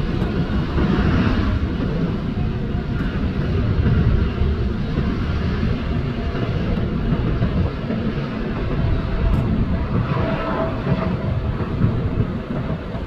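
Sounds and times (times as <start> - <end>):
jet engines on runway: 0.0 - 13.0.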